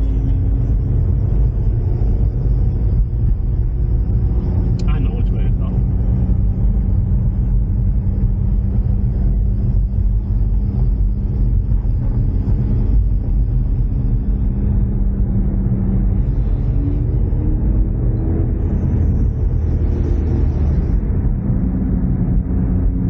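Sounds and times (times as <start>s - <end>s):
car engine cruising: 0.0s - 23.0s
constant low hum: 0.0s - 23.0s
road noise: 0.0s - 23.0s.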